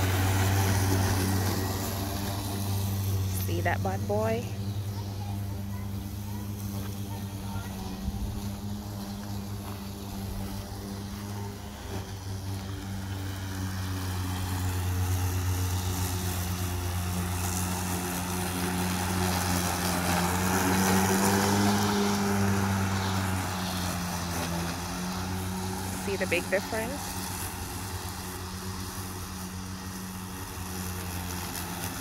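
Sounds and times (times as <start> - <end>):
electric lawn mower humming: 0.0 - 32.0
grass being cut: 0.0 - 32.0.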